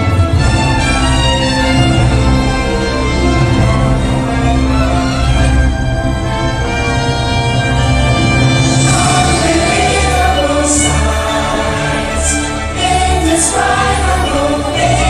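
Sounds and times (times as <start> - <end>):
choir singing: 0.0 - 15.0
orchestral music: 0.0 - 15.0.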